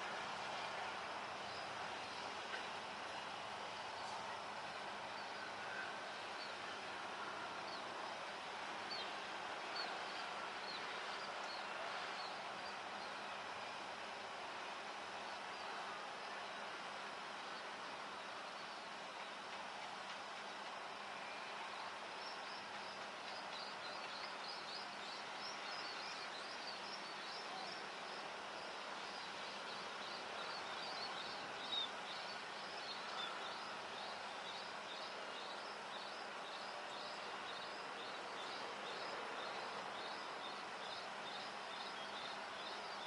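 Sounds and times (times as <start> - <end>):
steady outdoor hiss: 0.0 - 43.0.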